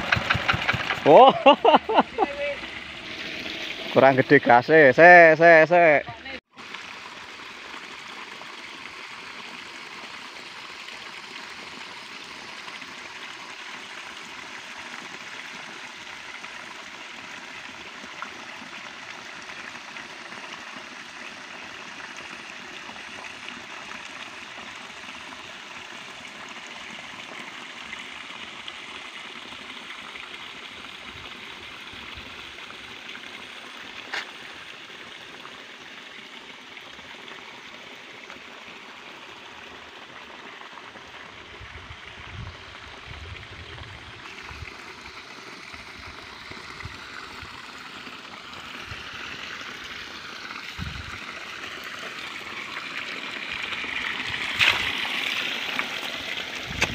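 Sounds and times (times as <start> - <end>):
running water rushing: 0.0 - 56.9.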